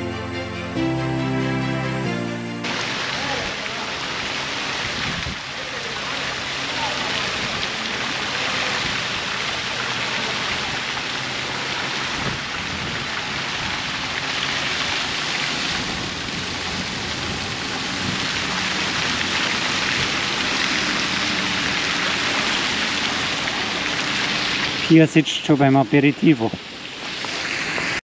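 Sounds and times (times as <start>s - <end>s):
fountain water splashing: 2.6s - 28.0s.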